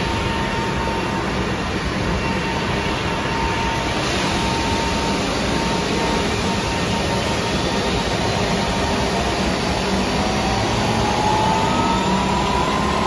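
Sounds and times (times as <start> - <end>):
jet engine air rush: 0.0 - 13.0
jet engine whine: 0.0 - 13.0
steady whistle: 2.3 - 13.0.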